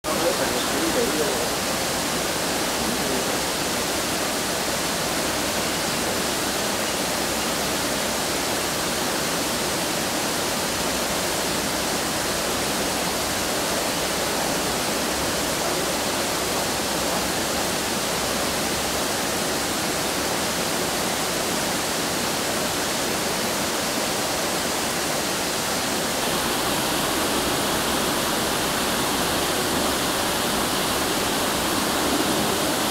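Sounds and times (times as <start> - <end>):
falling water rushing: 0.0 - 32.9.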